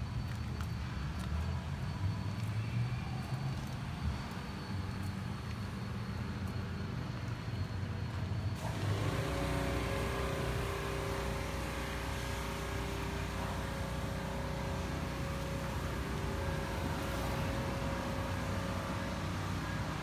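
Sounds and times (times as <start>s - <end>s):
engine hum: 0.0s - 20.0s.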